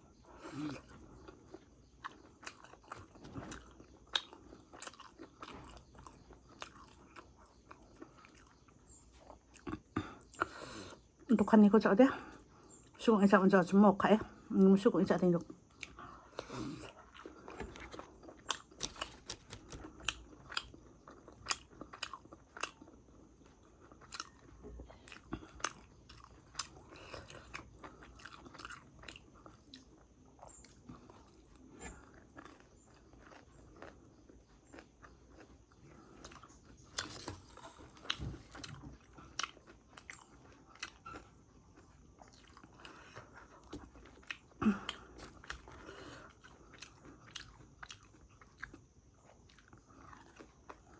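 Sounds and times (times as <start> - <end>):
chewing crisp food: 0.0 - 50.9.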